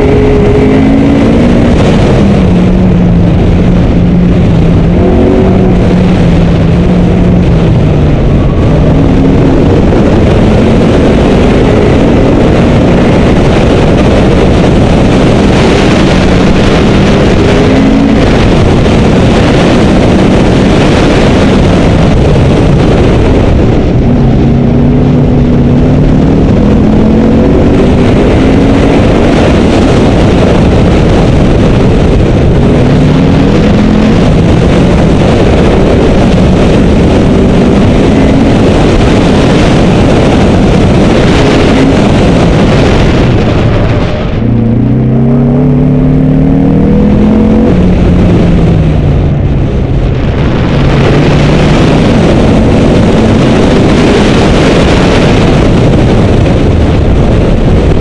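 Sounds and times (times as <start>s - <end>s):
car engine accelerating: 0.0s - 58.0s
wind and road noise: 0.0s - 58.0s.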